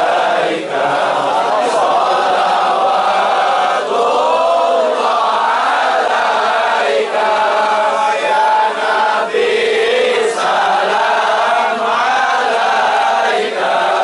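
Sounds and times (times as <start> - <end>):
crowd of men chanting: 0.0 - 14.0.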